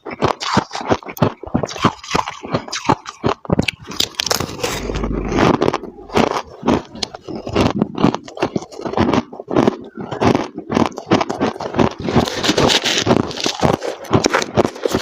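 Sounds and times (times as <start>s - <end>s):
frost crunching when chewed: 0.0s - 5.1s, 5.8s - 15.0s.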